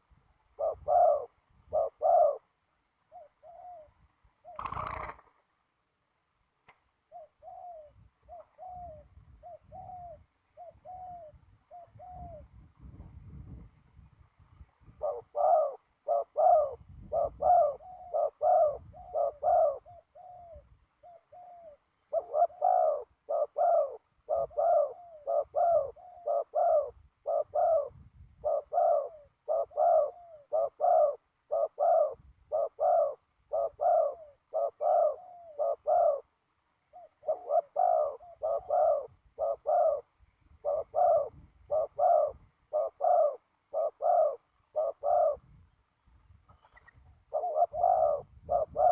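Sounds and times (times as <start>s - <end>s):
dove cooing: 0.0s - 5.2s, 7.0s - 12.6s, 14.9s - 45.6s, 47.2s - 48.9s.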